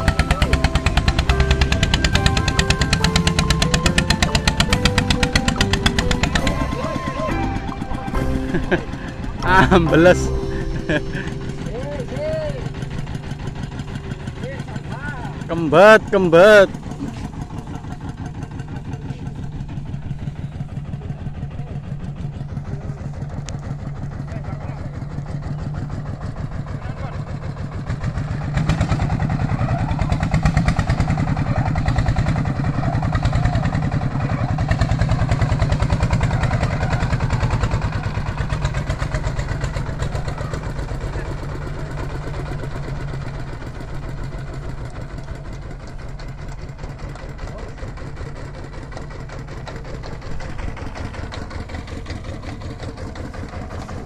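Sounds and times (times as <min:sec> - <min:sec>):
threshing machine engine chugging: 0:00.0 - 0:54.0.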